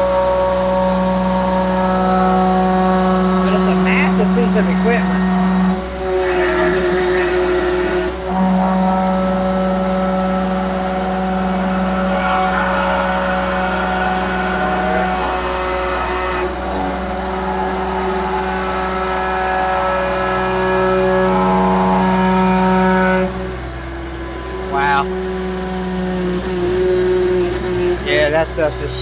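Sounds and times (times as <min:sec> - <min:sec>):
excavator diesel engine running: 0:00.0 - 0:29.0
hydraulics working: 0:00.0 - 0:29.0.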